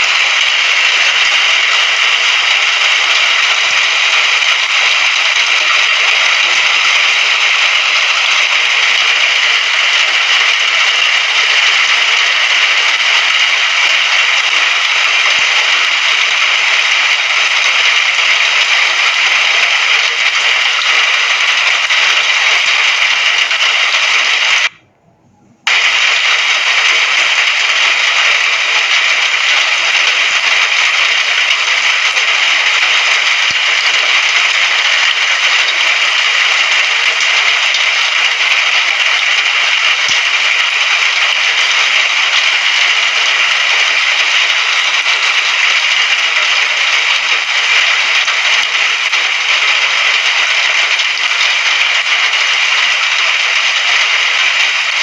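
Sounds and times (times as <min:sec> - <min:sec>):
heavy rain hissing: 0:00.0 - 0:24.8, 0:25.6 - 0:55.0.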